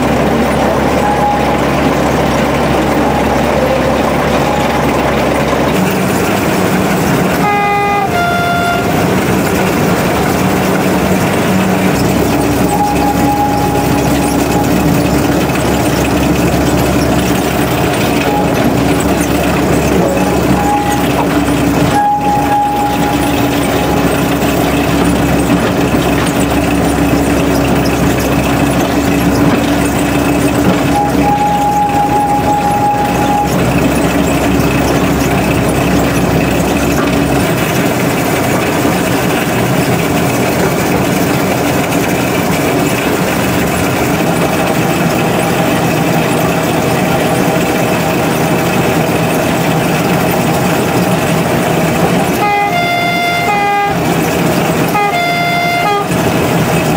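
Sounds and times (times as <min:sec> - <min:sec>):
locomotive engine rumbling: 0:00.0 - 0:56.9.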